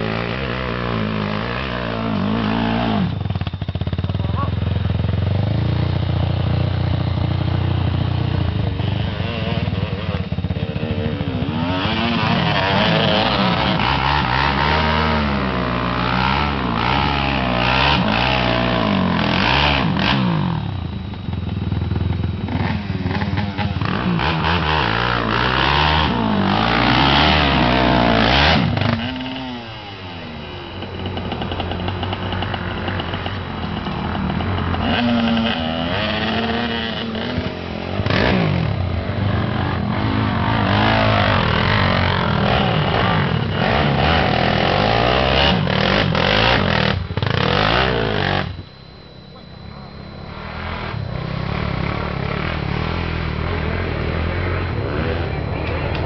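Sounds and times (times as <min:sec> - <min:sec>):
quad bike engines revving: 0:00.0 - 0:56.0
quieter engine running: 0:00.0 - 0:56.0.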